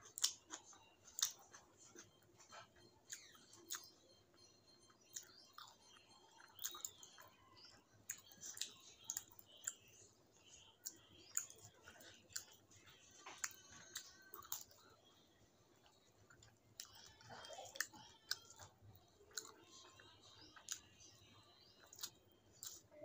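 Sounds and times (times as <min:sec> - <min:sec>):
person chewing with wet smacks: 0:00.0 - 0:15.1, 0:15.7 - 0:23.0.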